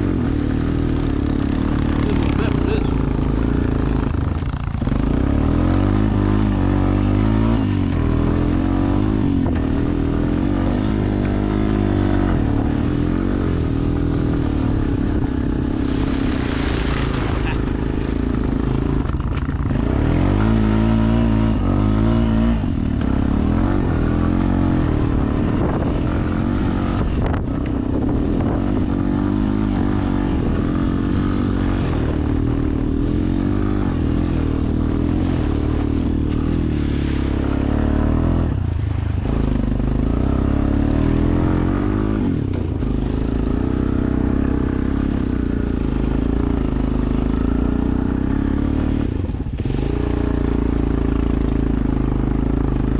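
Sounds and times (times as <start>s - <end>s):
atv engine revving: 0.0s - 52.9s.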